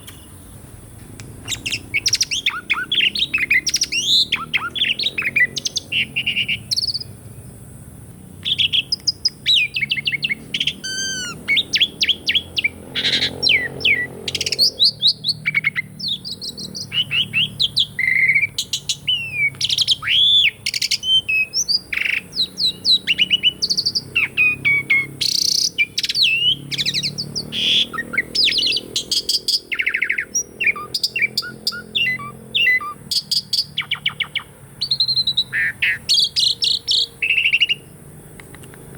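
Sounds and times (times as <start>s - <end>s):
starling singing: 1.4s - 7.2s, 8.4s - 38.9s.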